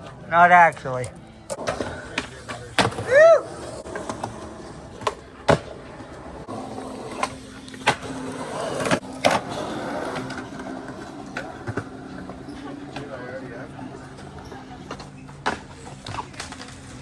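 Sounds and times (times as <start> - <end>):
skateboards clacking on ground: 0.0 - 17.0
skateboards rolling on pavement: 1.1 - 17.0.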